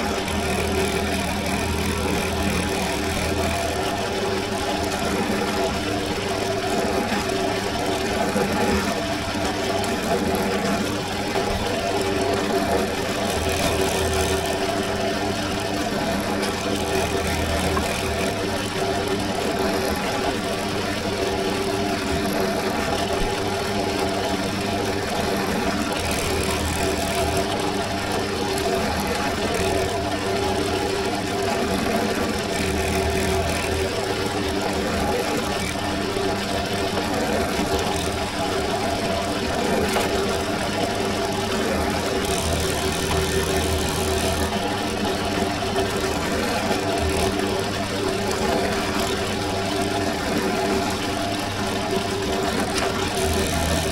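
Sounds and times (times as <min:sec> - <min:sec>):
drill press motor humming: 0:00.0 - 0:53.9.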